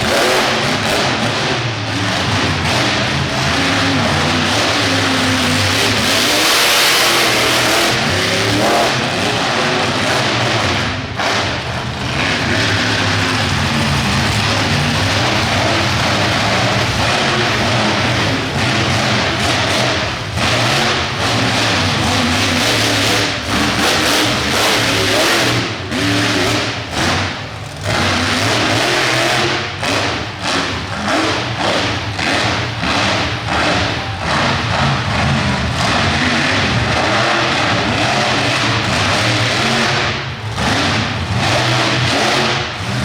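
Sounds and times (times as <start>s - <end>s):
monster truck engine revving: 0.0s - 43.0s.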